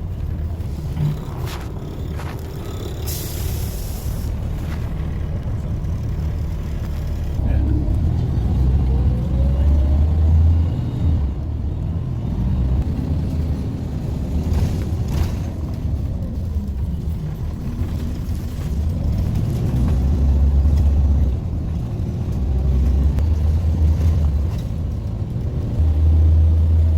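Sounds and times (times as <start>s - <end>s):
bus engine and road rumble: 0.0s - 26.9s.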